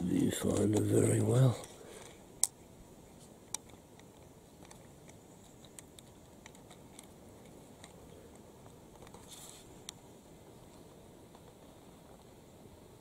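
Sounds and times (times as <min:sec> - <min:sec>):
low background hiss: 0:00.0 - 0:13.0.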